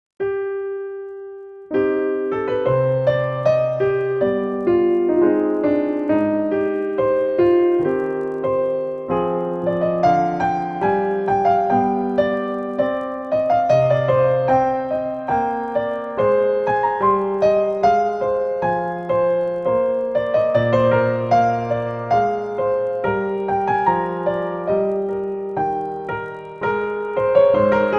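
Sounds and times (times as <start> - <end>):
slow gentle piano melody: 0.2 - 27.9.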